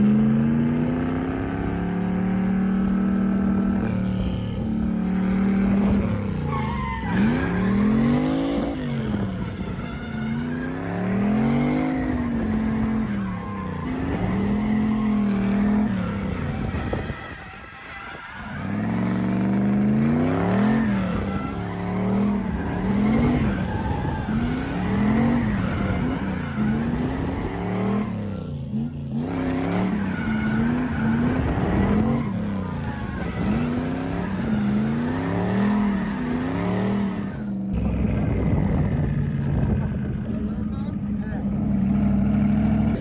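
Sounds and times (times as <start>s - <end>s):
car engine revving: 0.0s - 43.0s
tyres squealing: 0.6s - 37.9s.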